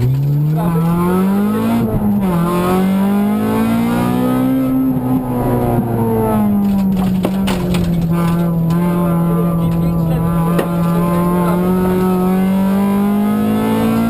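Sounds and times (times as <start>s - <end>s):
car engine revving in cabin: 0.0s - 14.0s.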